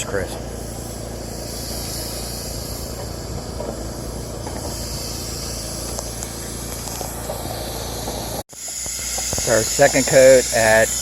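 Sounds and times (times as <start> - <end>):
hiss of coating spraying: 0.0 - 11.0
spray rig running: 0.0 - 11.0.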